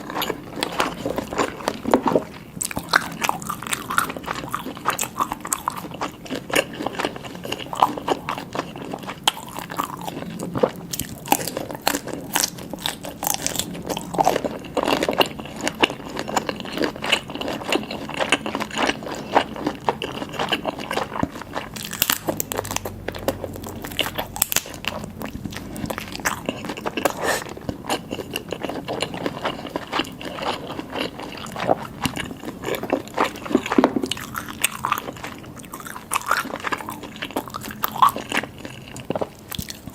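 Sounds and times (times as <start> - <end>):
close-miked chewing and crunching: 0.0 - 39.9.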